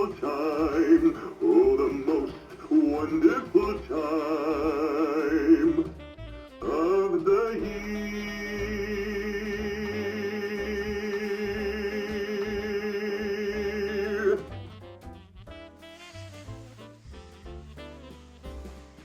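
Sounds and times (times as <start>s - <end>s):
music accompaniment: 0.0s - 19.0s
quieter music: 0.0s - 19.0s.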